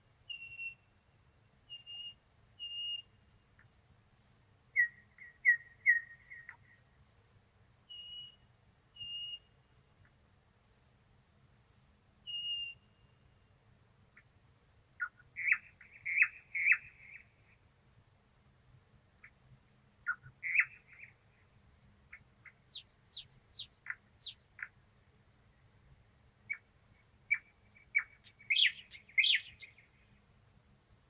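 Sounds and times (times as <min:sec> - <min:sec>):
nightingale singing: 0:00.2 - 0:18.0, 0:18.8 - 0:31.0.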